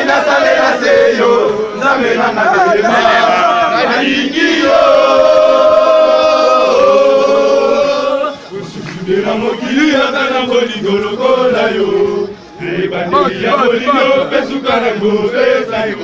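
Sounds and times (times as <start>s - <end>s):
men singing together: 0.0s - 16.0s.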